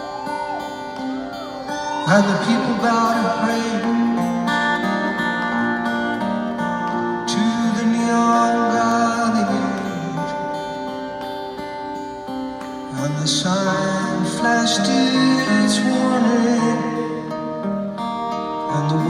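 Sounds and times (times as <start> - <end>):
person singing: 0.0 - 11.7, 12.6 - 17.6, 18.4 - 19.0
acoustic guitar: 0.0 - 19.0.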